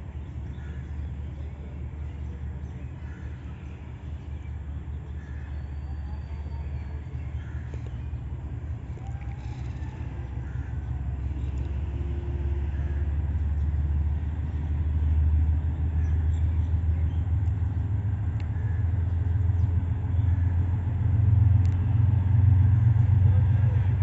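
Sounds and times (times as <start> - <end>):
low rumble of train approaching: 0.0 - 24.0.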